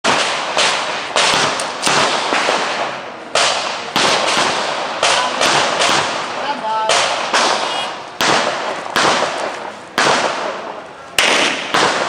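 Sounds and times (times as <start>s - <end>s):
pistol shots with echo: 0.0s - 12.0s.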